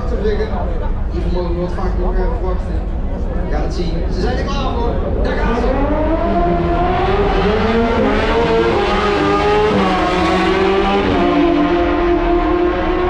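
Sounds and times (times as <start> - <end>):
car engines revving: 1.0 - 13.0.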